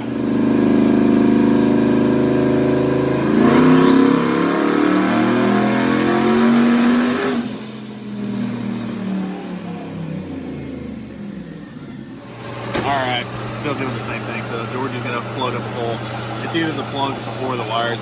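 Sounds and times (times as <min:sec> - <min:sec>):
turbocharged truck engine revving: 0:00.0 - 0:18.0.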